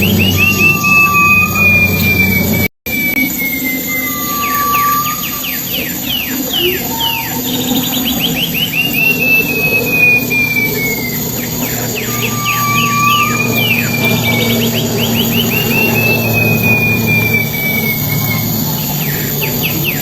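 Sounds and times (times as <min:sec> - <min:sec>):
songbird singing: 0:00.0 - 0:20.0
steady low hum: 0:00.0 - 0:20.0.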